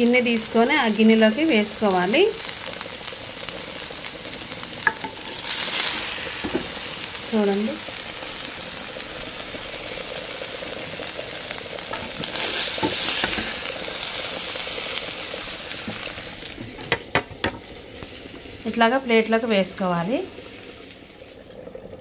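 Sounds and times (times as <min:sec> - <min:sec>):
chicken sizzling in a pan: 0:00.0 - 0:21.4.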